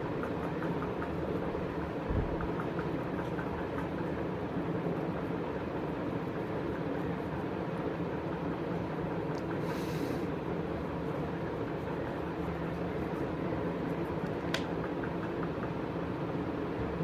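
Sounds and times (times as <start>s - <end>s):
machine hum and rumble: 0.0s - 17.0s.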